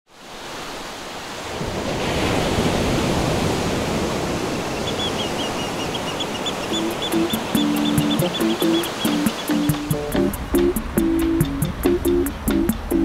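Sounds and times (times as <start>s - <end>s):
ocean surf on sandy beach: 0.1s - 13.0s.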